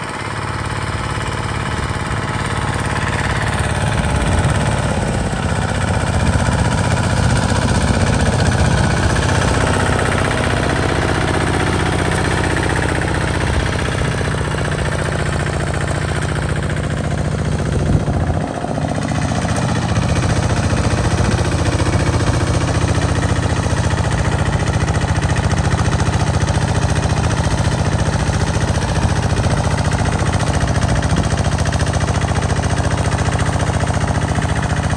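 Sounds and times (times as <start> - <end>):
diesel engine chugging: 0.0 - 34.9.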